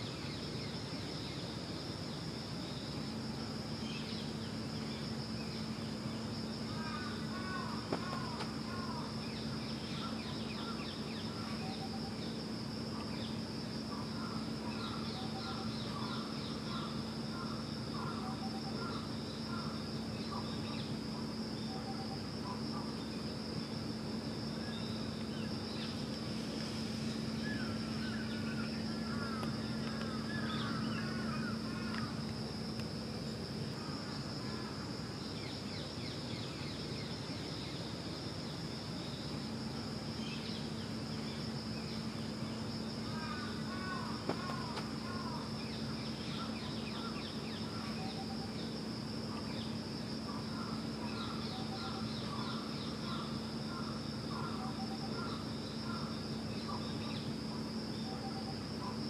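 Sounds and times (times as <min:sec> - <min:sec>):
insects droning: 0:00.0 - 0:59.0
low mechanical hum: 0:00.0 - 0:59.0.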